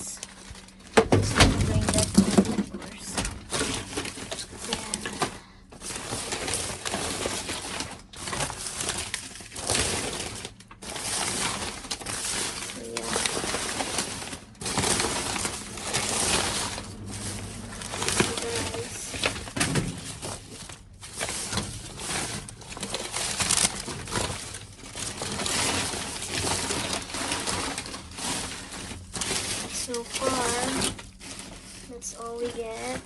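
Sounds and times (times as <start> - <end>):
trash rustling and knocking: 0.2 - 33.0.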